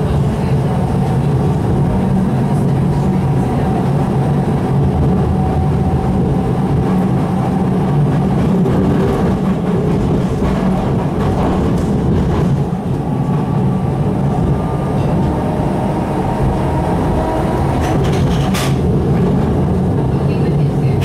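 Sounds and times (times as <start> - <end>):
streetcar rumbling on track: 0.0 - 21.0.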